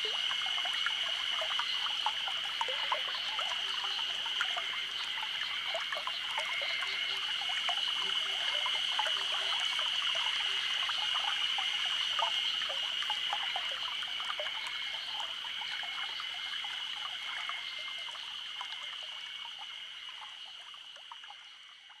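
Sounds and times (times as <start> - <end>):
brook trickling: 0.0 - 22.0
cicadas droning: 0.0 - 22.0.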